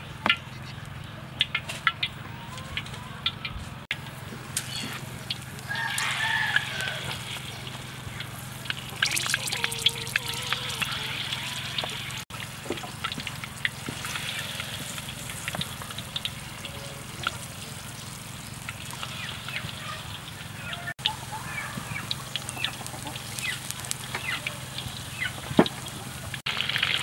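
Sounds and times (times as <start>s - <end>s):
oil crackling and popping: 0.8s - 27.0s
oil sizzling in a wok: 4.1s - 27.0s.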